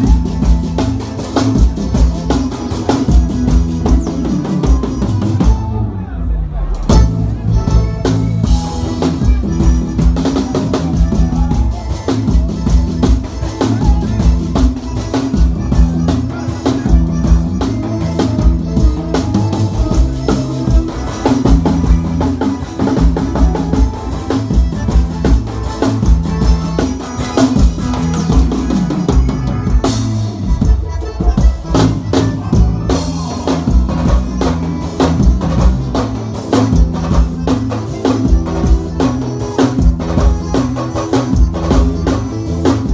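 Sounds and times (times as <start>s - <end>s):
drum kit beat with rimshots: 0.0s - 42.9s
live band playing: 0.0s - 42.9s.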